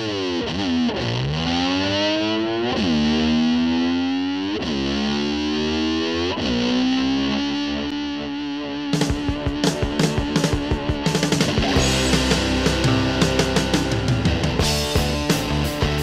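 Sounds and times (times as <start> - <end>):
distorted electric slide guitar: 0.0 - 16.0.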